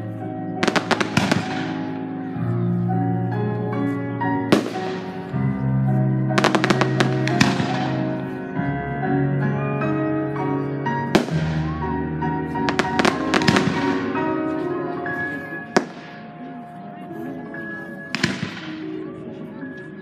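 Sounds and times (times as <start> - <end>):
music with long held chords: 0.0 - 20.0.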